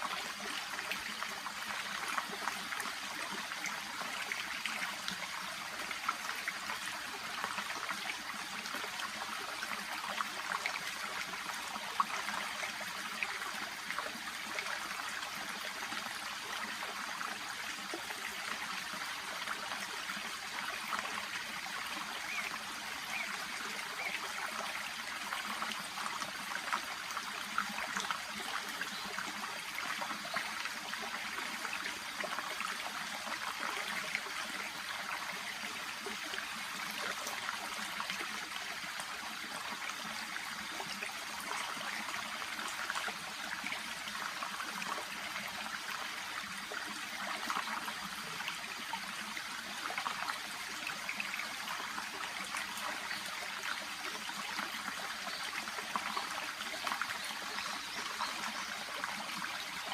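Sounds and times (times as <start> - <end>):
shallow brook babbling: 0.0 - 59.9.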